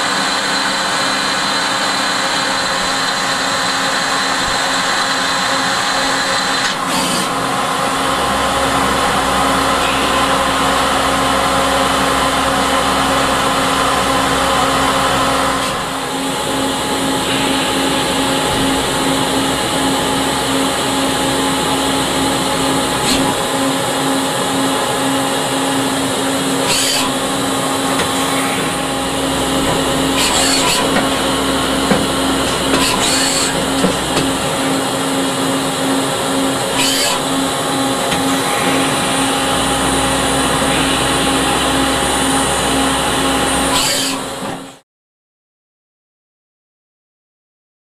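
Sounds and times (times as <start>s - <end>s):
lathe machine hum and whine: 0.0s - 44.8s.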